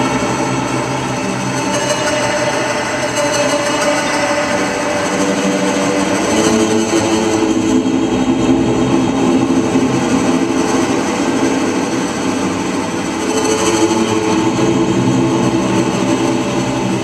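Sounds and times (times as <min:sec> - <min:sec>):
bowed cello with effects: 0:00.0 - 0:17.0.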